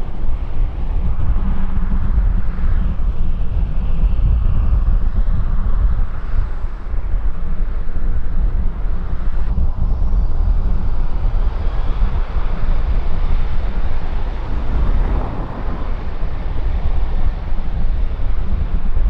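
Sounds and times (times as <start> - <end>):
faint high engine whine: 0.0 - 19.0
jet engine rumble: 0.0 - 19.0
wind buffeting microphone: 0.0 - 19.0.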